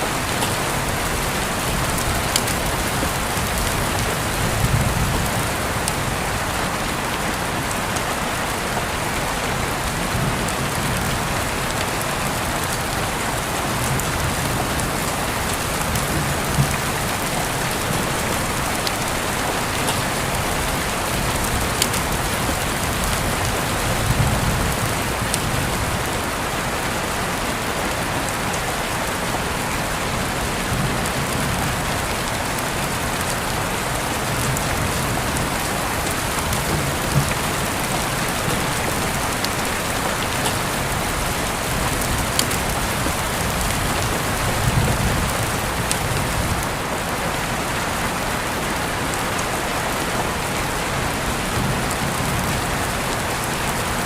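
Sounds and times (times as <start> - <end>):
steady rain on surfaces: 0.0 - 54.0.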